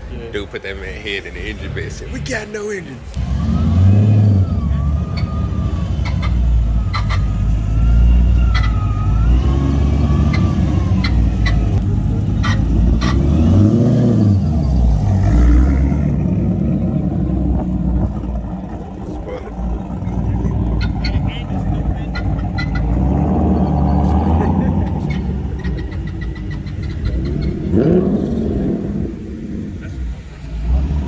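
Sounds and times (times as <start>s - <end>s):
car engine revving: 3.1s - 31.0s.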